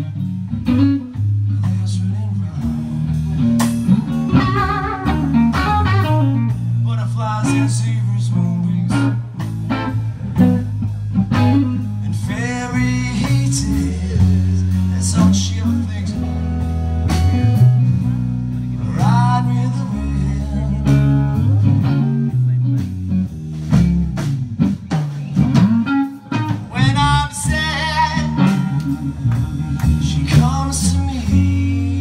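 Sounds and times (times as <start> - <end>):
bass guitar: 0.0 - 32.0
drums: 0.0 - 32.0
electric guitar lead lines: 0.0 - 32.0.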